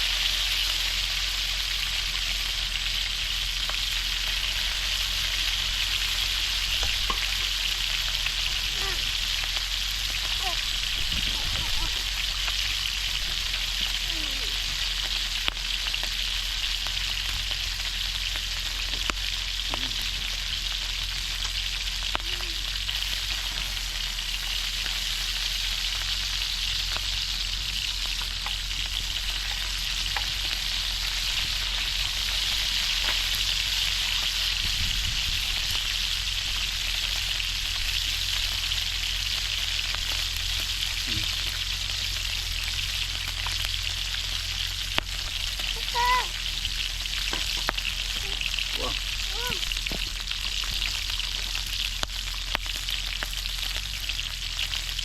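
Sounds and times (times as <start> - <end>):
meat sizzling in hot oil: 0.0 - 55.0.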